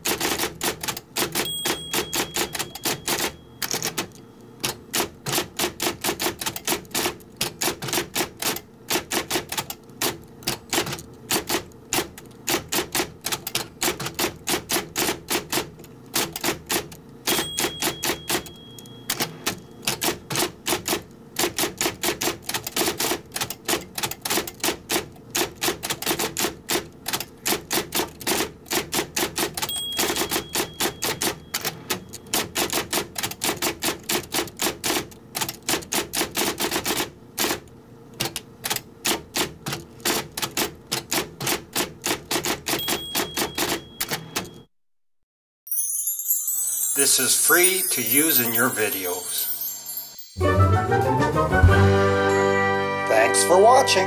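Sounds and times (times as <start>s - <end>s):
keyboard typing: 0.0s - 44.7s.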